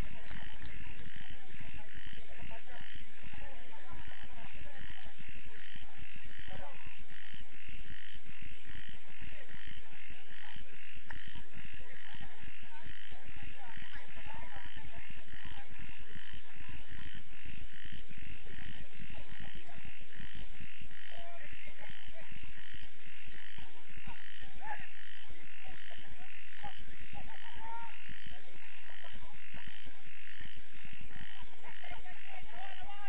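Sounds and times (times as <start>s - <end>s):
frogs calling: 0.0s - 33.0s.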